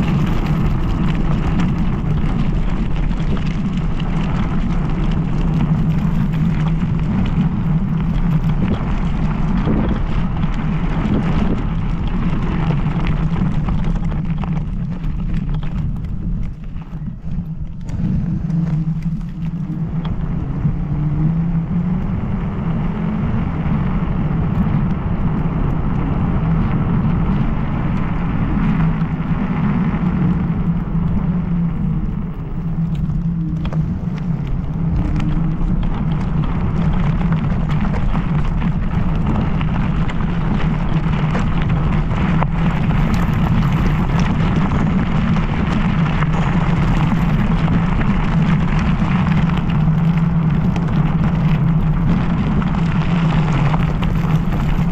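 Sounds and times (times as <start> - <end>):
tyre noise: 0.0 - 54.9
wind rumble: 0.0 - 54.9.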